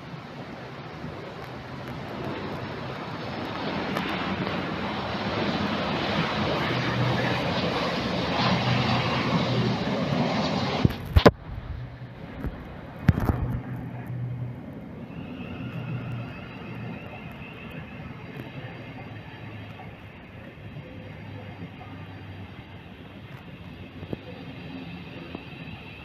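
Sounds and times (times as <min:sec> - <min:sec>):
jet engine noise: 0:00.0 - 0:26.0.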